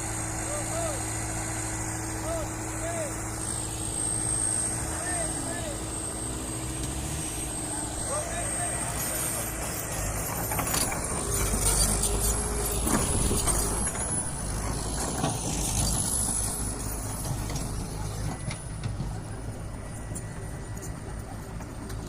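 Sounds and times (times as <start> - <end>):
diesel engine rumbling: 0.0 - 22.0
thin high whine: 0.1 - 22.0.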